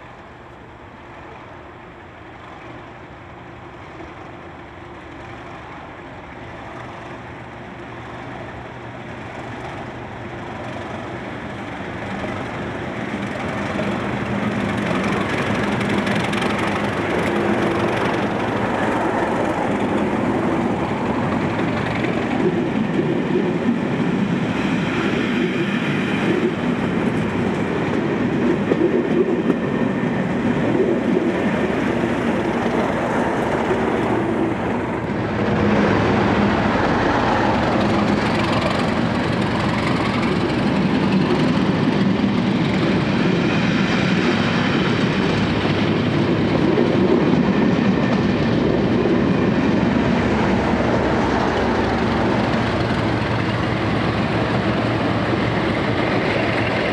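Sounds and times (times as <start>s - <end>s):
train coaches rumbling: 0.0s - 56.9s.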